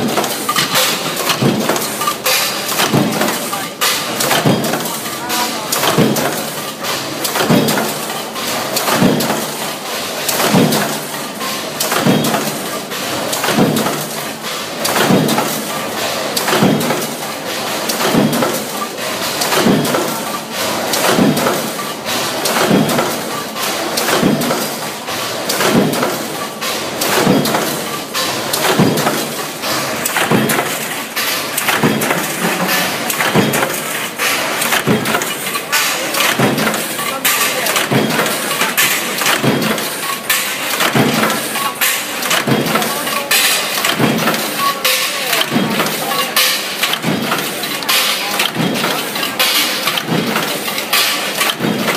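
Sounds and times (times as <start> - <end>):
continuous machine noise: 0.0 - 51.9
punch press stamping: 0.0 - 51.9.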